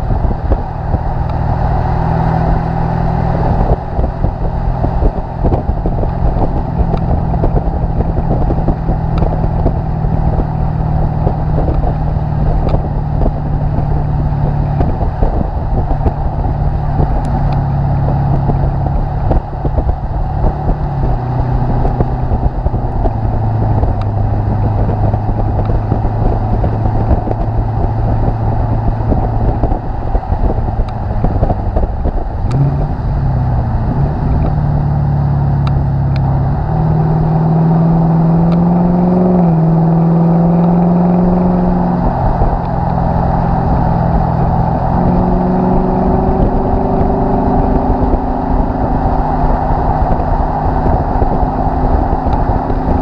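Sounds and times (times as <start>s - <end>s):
car exhaust drone: 0.0s - 53.0s
road and wind rush: 0.0s - 53.0s.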